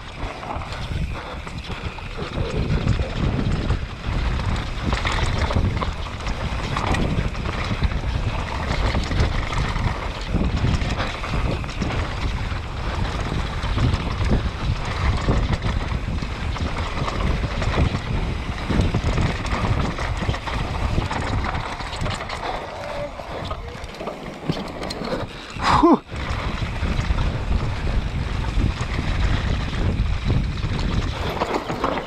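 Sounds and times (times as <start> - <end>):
bike rattling over dirt trail: 0.0 - 32.0
wind buffeting microphone: 0.0 - 32.0.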